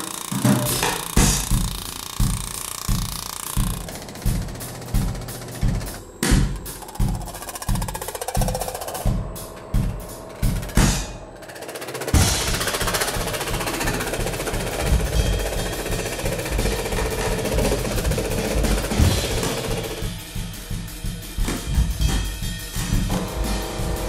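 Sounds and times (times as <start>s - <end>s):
drum-roll-like rattle: 0.0s - 24.0s
music with drum beat: 0.0s - 24.0s.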